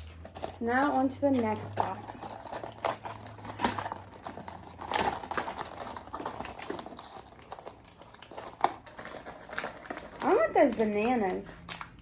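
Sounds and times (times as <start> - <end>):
plastic packs crinkling: 0.0 - 12.0.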